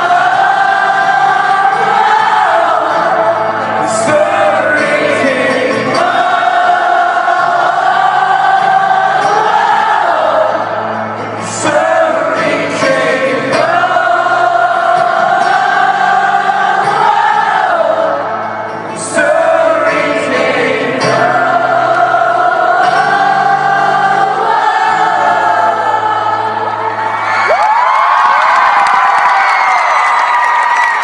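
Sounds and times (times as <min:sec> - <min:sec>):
crowd singing held notes: 0:00.0 - 0:27.4.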